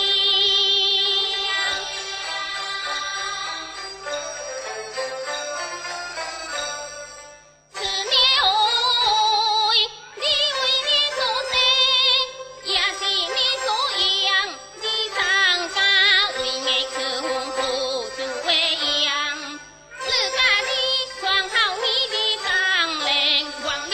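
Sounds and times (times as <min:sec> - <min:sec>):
high voice singing with vibrato: 0:00.0 - 0:04.1, 0:07.8 - 0:23.9
opera instrumental music: 0:00.0 - 0:23.9.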